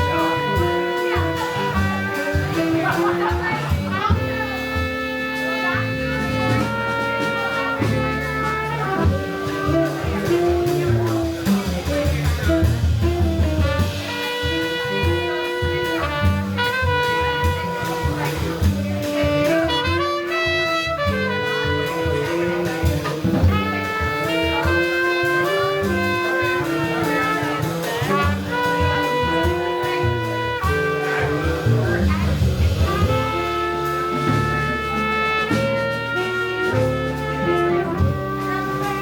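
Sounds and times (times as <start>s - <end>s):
live jazz band playing: 0.0s - 39.0s.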